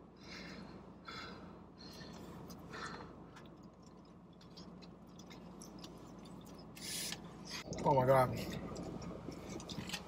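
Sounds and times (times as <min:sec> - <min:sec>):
people chewing: 0:01.9 - 0:10.0.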